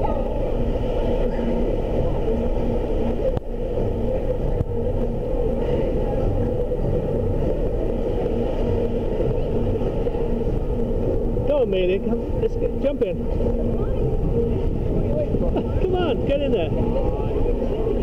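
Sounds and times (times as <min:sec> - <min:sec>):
faint pulsing tone: 0:00.0 - 0:18.0
low mechanical rumble and hum: 0:00.0 - 0:18.0.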